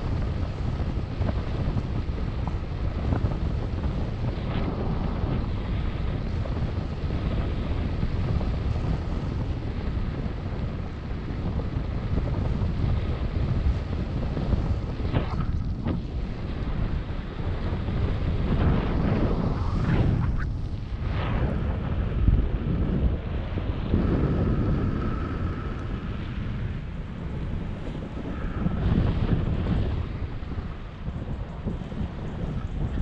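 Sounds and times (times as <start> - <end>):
wind rushing on microphone: 0.0 - 33.0.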